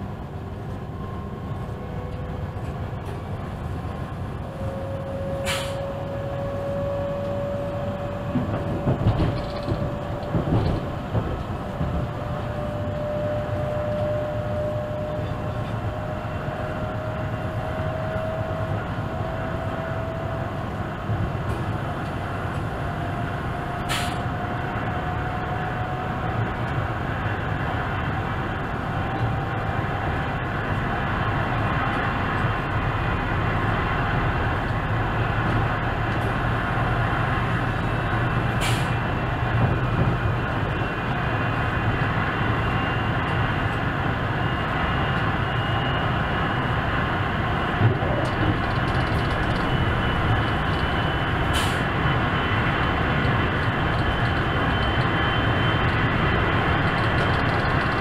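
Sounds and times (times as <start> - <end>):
train rumbling in motion: 0.0 - 58.0.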